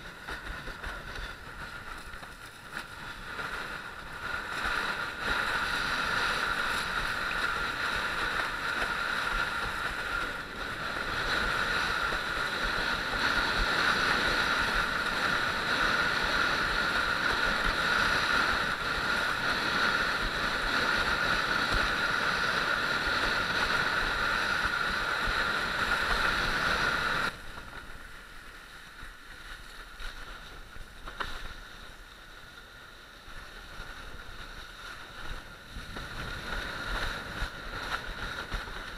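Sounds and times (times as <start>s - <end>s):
rushing wind: 0.0s - 38.9s.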